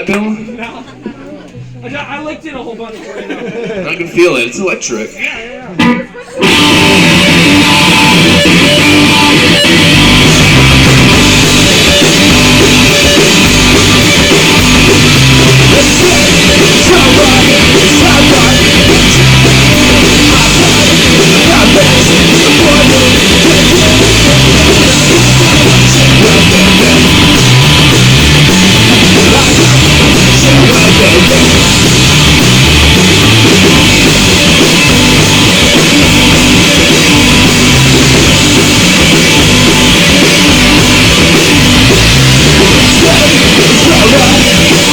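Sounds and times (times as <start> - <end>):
distorted electric guitar: 5.8 - 44.9
live rock band playing: 5.8 - 44.9.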